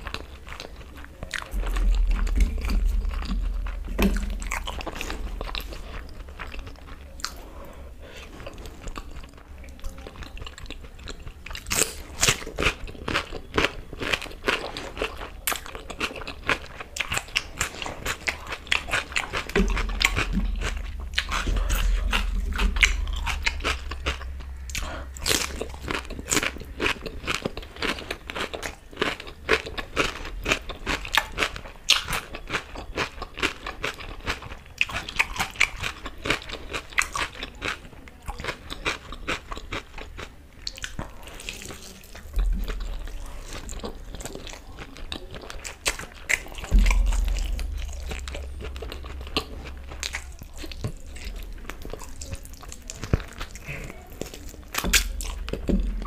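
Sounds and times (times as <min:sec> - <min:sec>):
wet chewing: 0:00.0 - 0:56.0
crunching cucumber: 0:08.3 - 0:56.0.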